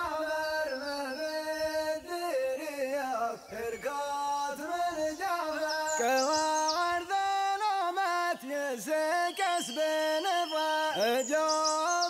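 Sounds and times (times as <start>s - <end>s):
person singing gliding long notes: 0.0s - 12.0s.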